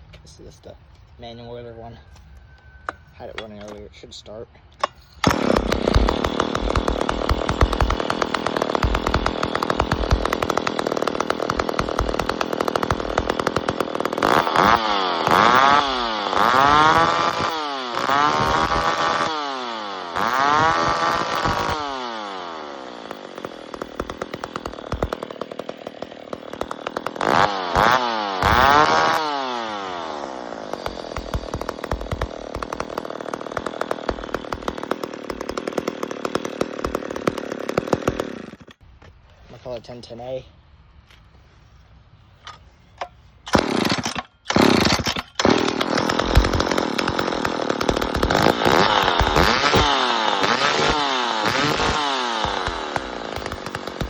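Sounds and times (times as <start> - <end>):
chainsaw idling and revving: 5.2 - 38.8, 43.6 - 54.0.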